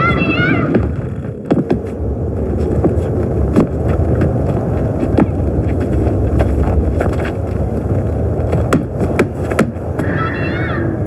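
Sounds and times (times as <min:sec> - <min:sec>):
loud rush of wind: 0:00.0 - 0:11.0.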